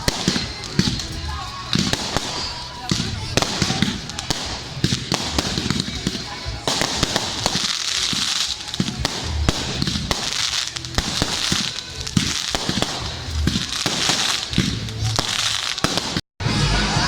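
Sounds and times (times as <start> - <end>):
fireworks hiss and crackle: 0.0 - 16.2
fireworks bangs and cracks: 0.0 - 16.7.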